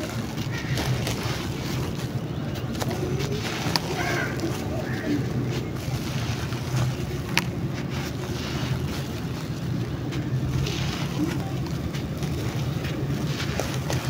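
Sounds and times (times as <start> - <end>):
grainy crackles of crumbling sand: 0.0 - 14.0.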